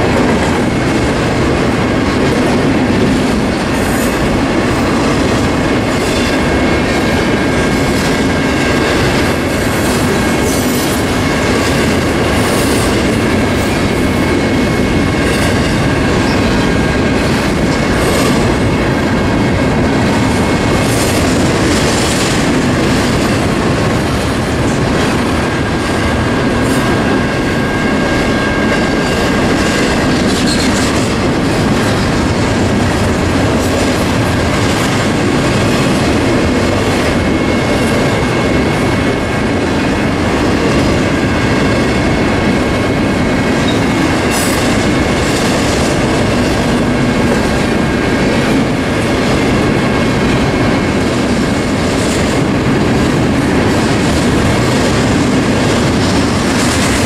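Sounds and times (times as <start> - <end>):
train wheels clicking over rail joints: 0.0 - 57.0.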